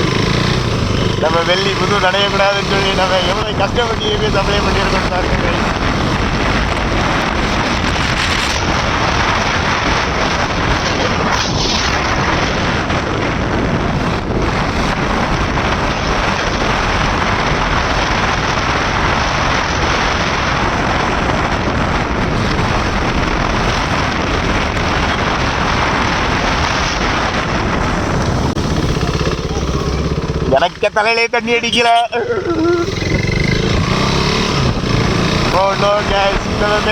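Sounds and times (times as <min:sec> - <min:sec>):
motorcycle engine: 0:00.0 - 0:36.9
tyres on wet road: 0:00.0 - 0:36.9
wind buffeting microphone: 0:00.0 - 0:36.9.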